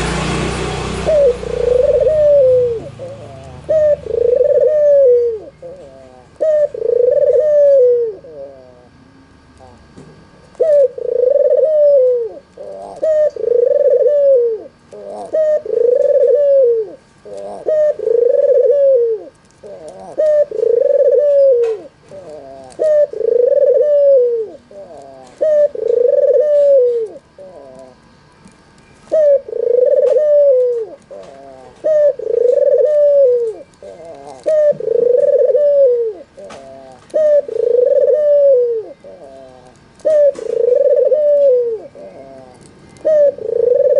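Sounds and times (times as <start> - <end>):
dove cooing: 0.8 - 9.0, 10.5 - 28.0, 29.1 - 43.9.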